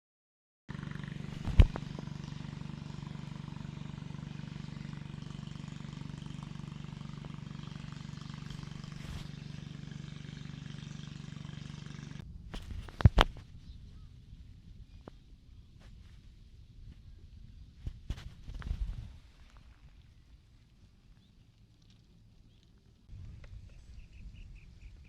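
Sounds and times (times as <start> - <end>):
low motor hum: 0.7 - 25.0.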